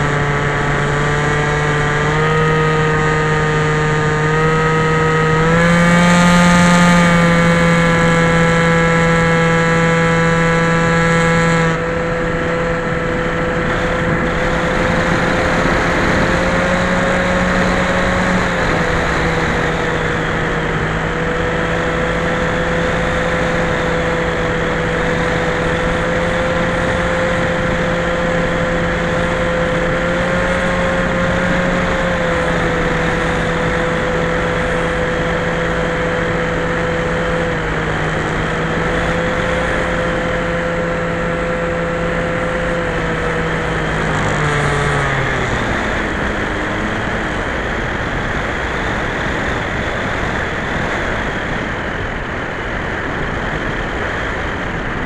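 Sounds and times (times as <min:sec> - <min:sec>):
model plane motor and propeller: 0:00.0 - 0:55.0.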